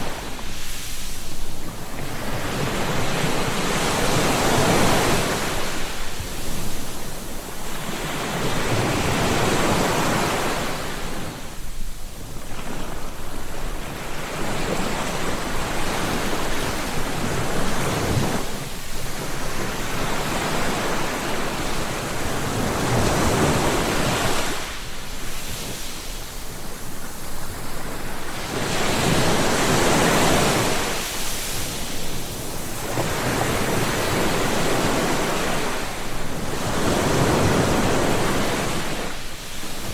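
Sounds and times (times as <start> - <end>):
ocean waves breaking: 0.0 - 39.9
wind on microphone: 0.0 - 39.9.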